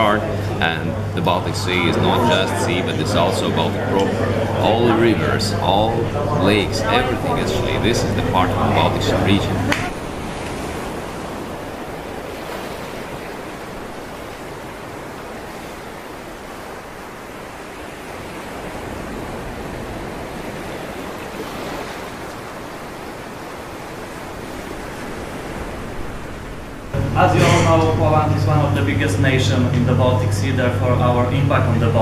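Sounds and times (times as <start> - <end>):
wind: 0.0 - 28.9
churning sea water: 0.0 - 32.0.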